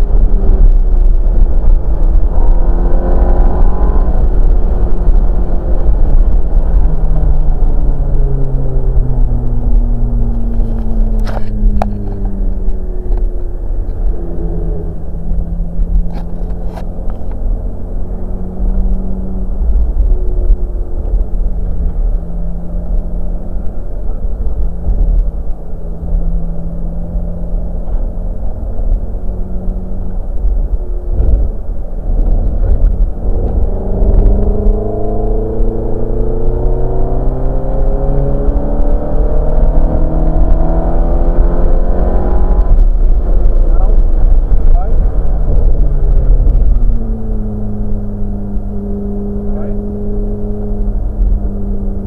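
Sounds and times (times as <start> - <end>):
car engine accelerating: 0.0 - 52.0
wind and road noise rumble: 0.0 - 52.0.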